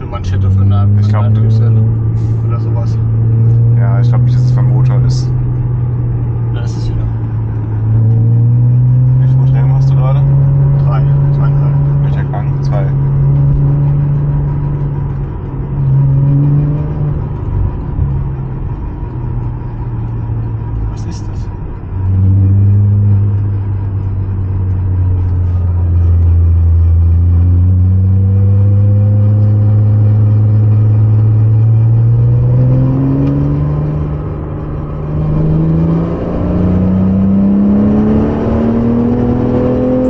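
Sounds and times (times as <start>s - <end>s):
car engine revving from cabin: 0.0s - 40.0s.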